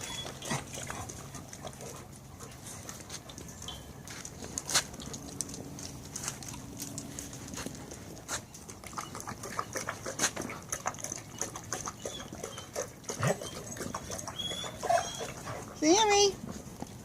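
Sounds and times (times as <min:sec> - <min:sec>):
dog paws clicking and tapping: 0:00.0 - 0:17.0.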